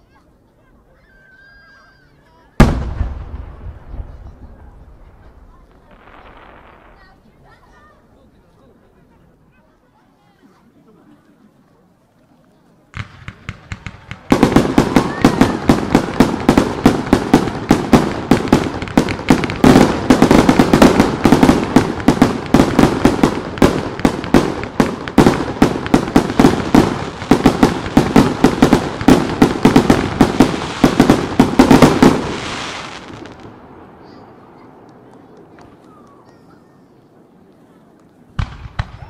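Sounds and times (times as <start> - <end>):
fireworks bursting with echoes: 2.6 - 8.1, 12.9 - 39.0.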